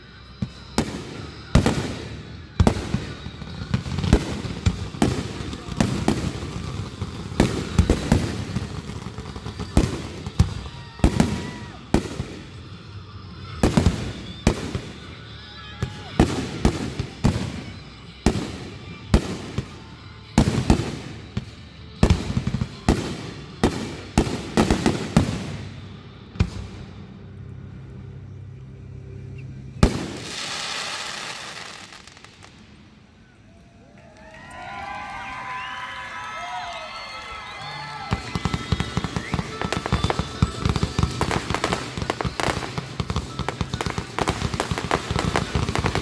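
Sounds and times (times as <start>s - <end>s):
fireworks hissing crackle: 0.0s - 27.5s, 29.8s - 33.0s, 35.5s - 46.0s
fireworks booming: 0.4s - 15.2s, 15.8s - 27.2s, 29.8s - 32.8s, 37.8s - 46.0s.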